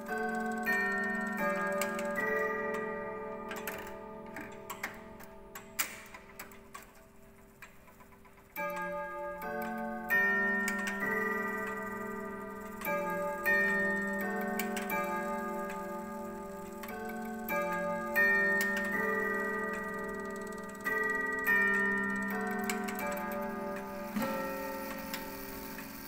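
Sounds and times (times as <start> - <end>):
clock chime melody: 0.0 - 26.0
clock ticking: 0.0 - 26.0.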